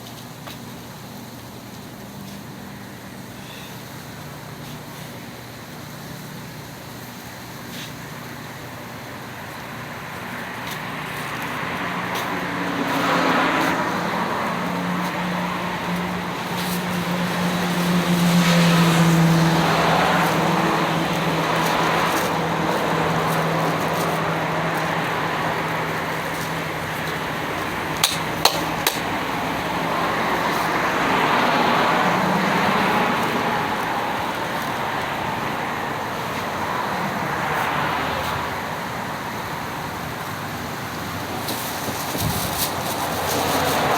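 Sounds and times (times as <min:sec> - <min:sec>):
vehicles passing: 0:01.9 - 0:43.9
low engine hum: 0:08.4 - 0:43.9.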